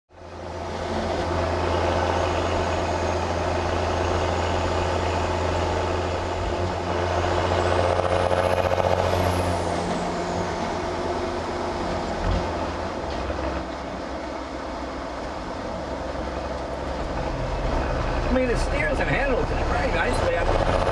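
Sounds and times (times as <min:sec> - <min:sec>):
road noise: 0:00.1 - 0:20.9
truck engine drone: 0:00.1 - 0:20.9.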